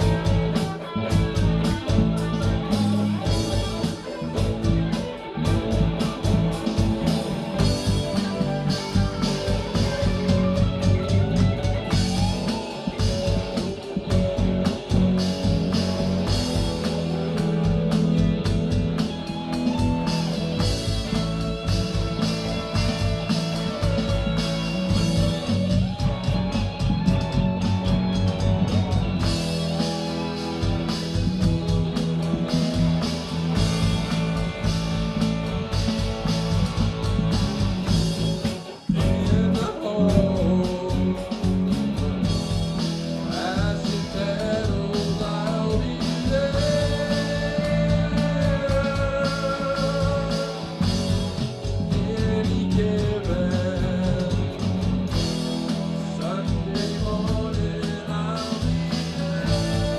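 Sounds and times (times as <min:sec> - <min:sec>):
live rock band: 0:00.0 - 0:59.9.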